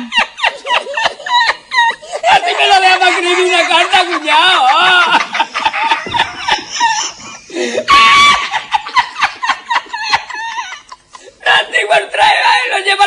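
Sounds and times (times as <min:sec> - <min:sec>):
high-pitched squealing laugh: 0:00.0 - 0:11.0
men laughing: 0:00.0 - 0:11.6.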